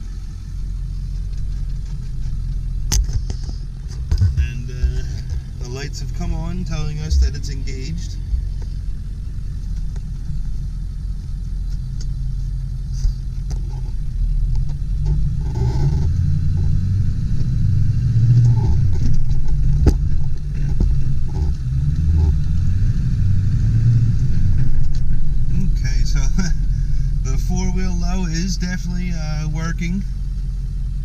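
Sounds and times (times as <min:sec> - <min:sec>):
diesel truck engine rumble: 0:00.0 - 0:31.0.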